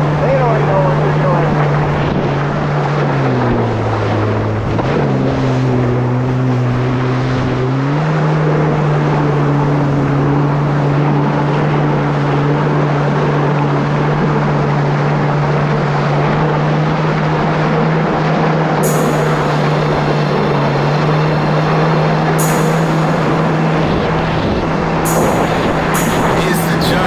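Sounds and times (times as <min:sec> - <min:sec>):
jet ski engine running: 0:00.0 - 0:27.0
rush of wind and water: 0:00.0 - 0:27.0.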